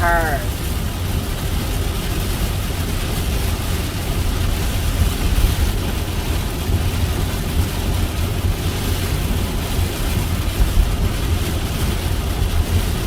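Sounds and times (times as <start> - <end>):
heavy rain on a vehicle: 0.0 - 13.0.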